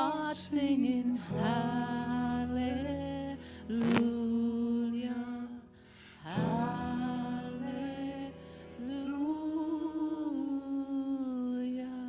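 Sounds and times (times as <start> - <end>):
slow worship song: 0.0 - 12.0.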